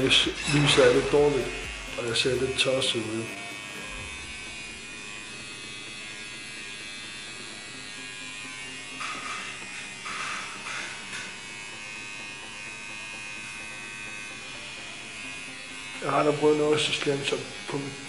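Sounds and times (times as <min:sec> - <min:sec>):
tattoo machine buzzing: 0:00.0 - 0:18.0.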